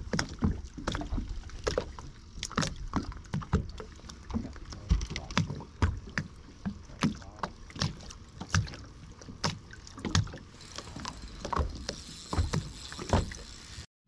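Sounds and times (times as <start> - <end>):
water slapping against boat hull: 0.0 - 13.6.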